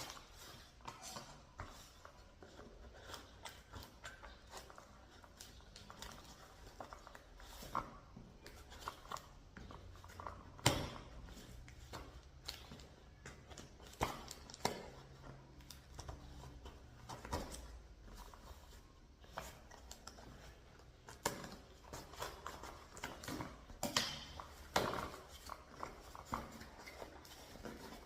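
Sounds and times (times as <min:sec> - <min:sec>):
clicks and taps of handled items: 0:00.0 - 0:18.6, 0:19.2 - 0:28.0.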